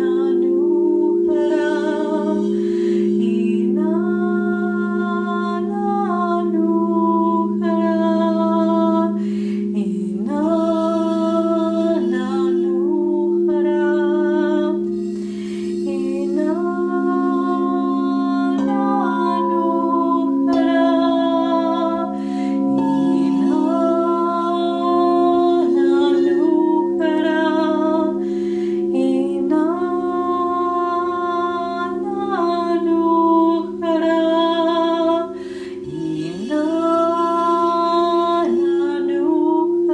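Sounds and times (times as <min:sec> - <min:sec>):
crystal singing bowls ringing: 0:00.0 - 0:39.9
woman singing long held notes: 0:00.0 - 0:39.9.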